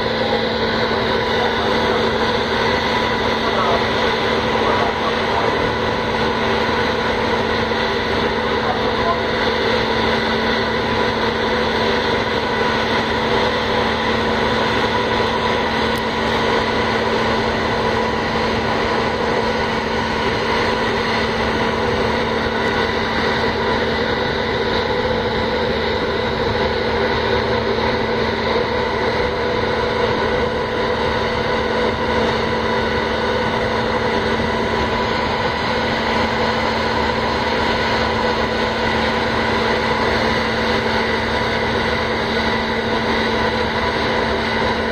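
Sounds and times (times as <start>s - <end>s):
ferry engines droning: 0.0s - 44.9s.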